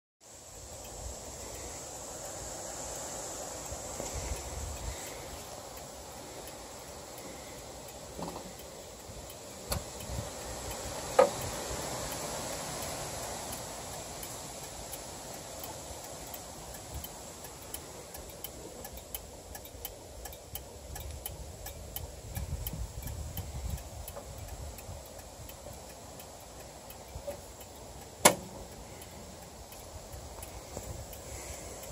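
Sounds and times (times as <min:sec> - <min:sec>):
wheels clicking on rails: 0:00.2 - 0:31.9.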